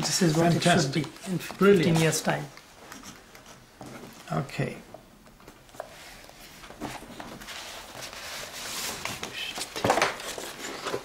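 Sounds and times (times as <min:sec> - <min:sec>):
paper rustling: 0:00.0 - 0:04.3, 0:05.5 - 0:11.0.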